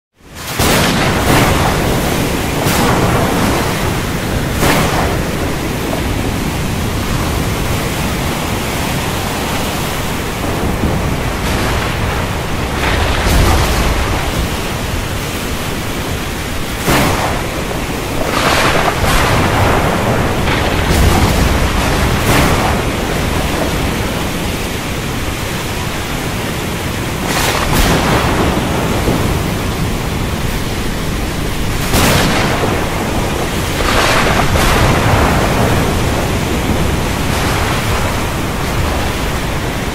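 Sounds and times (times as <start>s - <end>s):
rushing storm noise: 0.1s - 39.9s
thunder cracks and rumbles: 0.4s - 39.9s.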